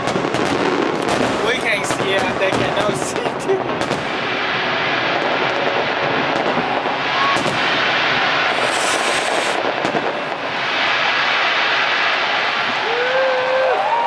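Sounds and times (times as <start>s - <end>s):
fireworks bursts rumbling: 0.0s - 14.0s
fireworks crackling: 0.0s - 14.0s.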